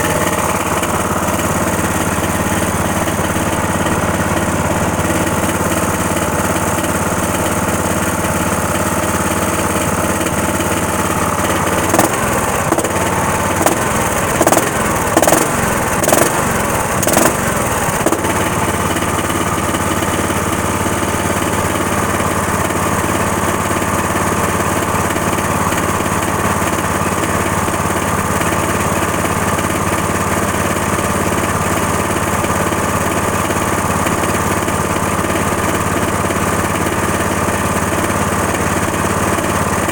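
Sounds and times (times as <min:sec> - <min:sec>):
engine running and stumbling: 0:00.0 - 0:39.9.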